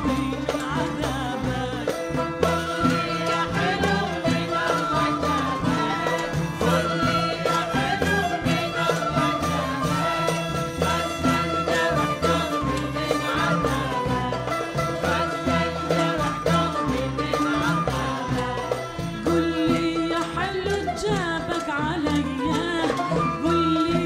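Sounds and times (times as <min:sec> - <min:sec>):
steady percussion beat: 0:00.0 - 0:24.0.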